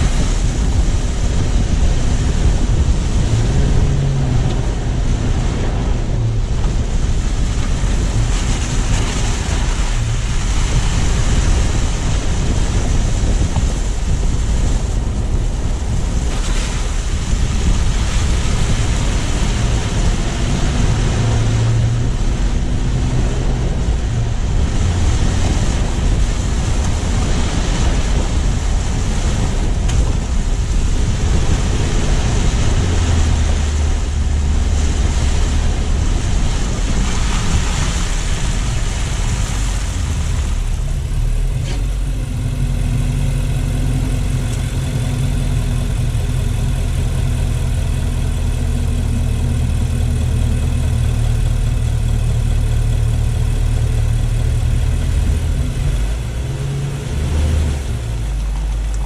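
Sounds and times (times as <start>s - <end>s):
car engine idling: 0.0s - 59.0s
tyre and wind noise: 0.0s - 59.0s.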